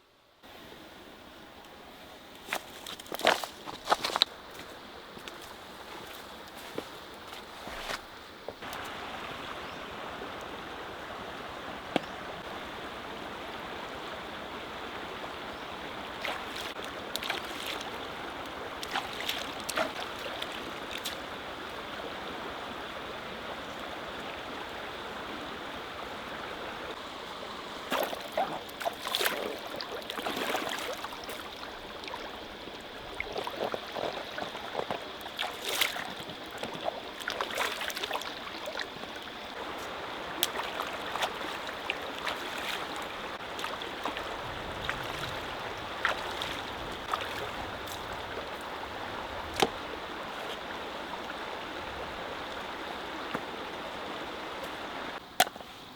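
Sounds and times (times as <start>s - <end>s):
stream water running: 0.4s - 55.9s.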